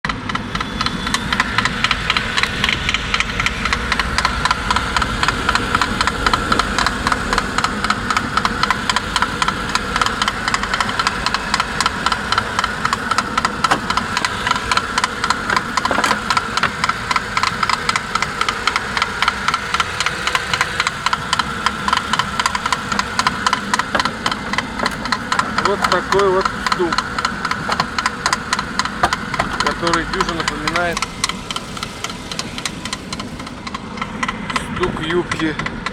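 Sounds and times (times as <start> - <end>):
engine idling with knock: 0.0 - 35.9.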